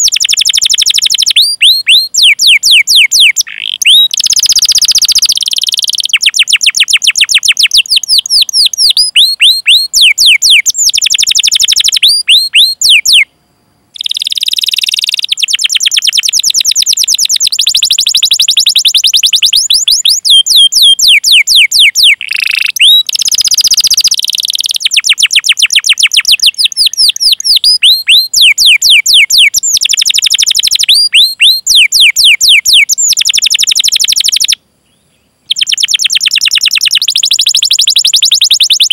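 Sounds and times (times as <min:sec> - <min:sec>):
canary singing trills: 0:00.0 - 0:13.3, 0:13.9 - 0:38.9.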